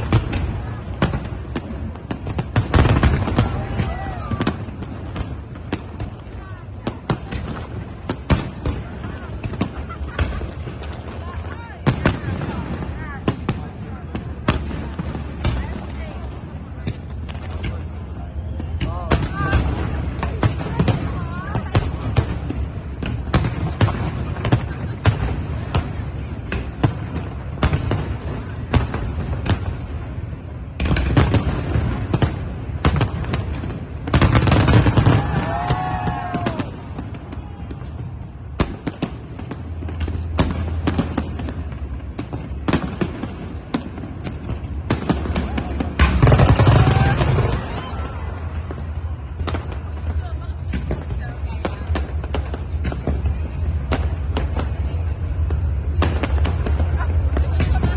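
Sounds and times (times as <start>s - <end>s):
distant fireworks rumble: 0.0s - 57.9s
fireworks sharp bangs: 0.0s - 57.9s.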